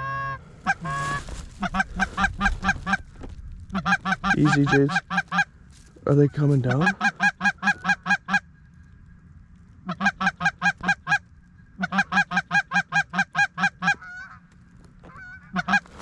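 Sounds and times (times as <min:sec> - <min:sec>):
goose call clucks: 0:00.0 - 0:08.5, 0:09.8 - 0:11.2, 0:11.8 - 0:16.0
faint goose honks: 0:00.0 - 0:08.6, 0:09.8 - 0:16.0.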